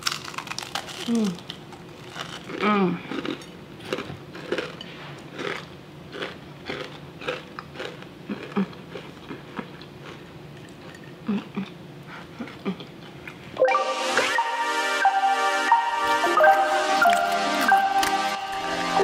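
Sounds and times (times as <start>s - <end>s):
crunching and chewing: 0.0s - 13.6s, 16.0s - 18.6s.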